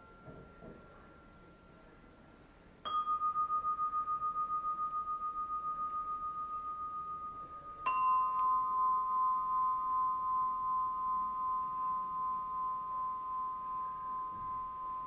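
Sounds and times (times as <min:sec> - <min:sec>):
singing bowl ringing: 0:00.0 - 0:01.9, 0:02.8 - 0:15.0.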